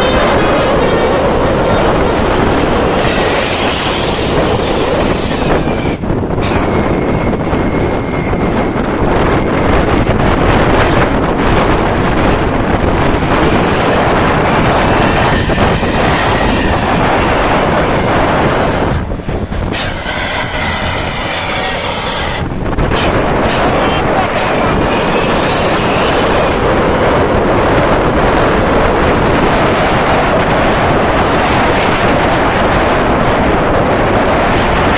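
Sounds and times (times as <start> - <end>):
diesel engine rumbling: 0.0 - 34.9
road and wind noise: 0.0 - 34.9.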